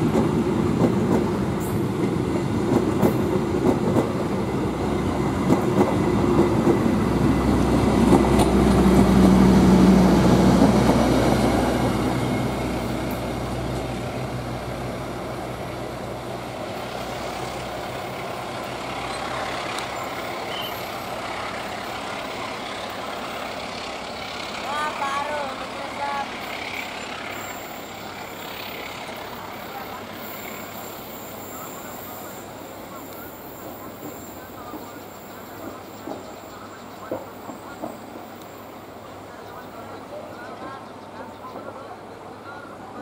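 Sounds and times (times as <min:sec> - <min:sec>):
train wheels rumbling: 0:00.0 - 0:39.3.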